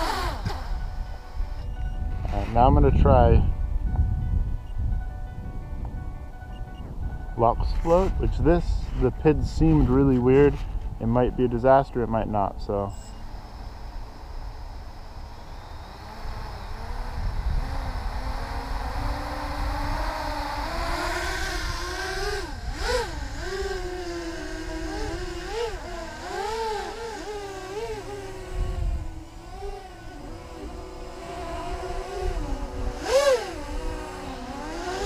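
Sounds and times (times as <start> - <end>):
quadcopter motors whining: 0.0 - 4.1, 6.6 - 35.0.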